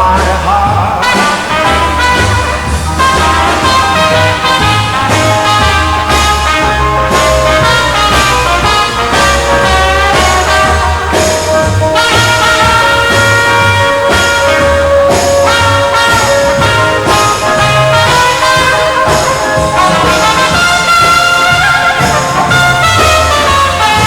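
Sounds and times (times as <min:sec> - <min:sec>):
bass line: 0:00.0 - 0:24.0
brass instruments playing melody: 0:00.0 - 0:24.0.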